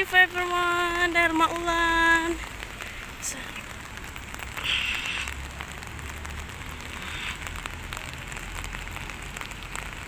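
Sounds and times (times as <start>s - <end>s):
rain on wet pavement: 0.0s - 10.0s.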